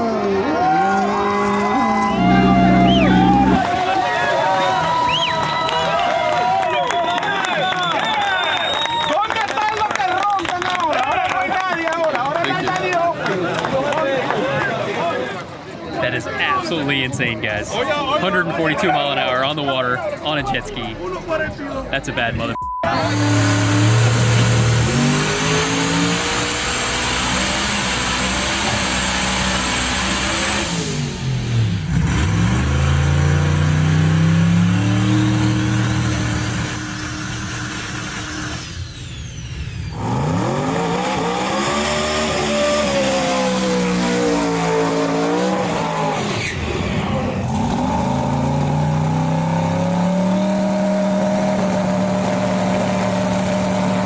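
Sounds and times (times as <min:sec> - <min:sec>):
drag car engine revving: 0:00.0 - 0:05.5, 0:16.0 - 0:54.0.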